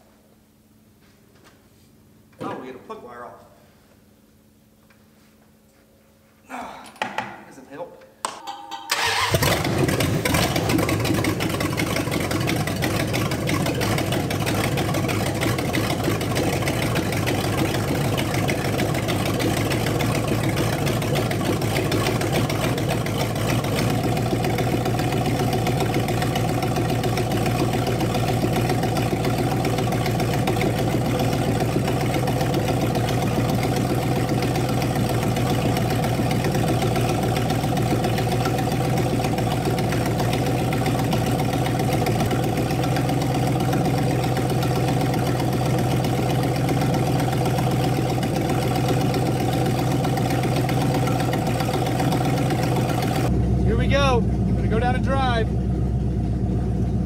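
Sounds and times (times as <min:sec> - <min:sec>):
car engine idling: 0:08.9 - 0:57.0.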